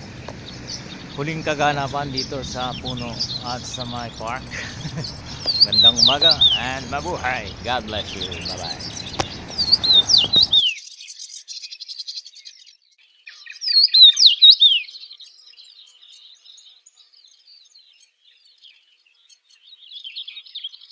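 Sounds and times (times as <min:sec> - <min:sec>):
small birds chirping whistled notes: 0:00.0 - 0:20.9.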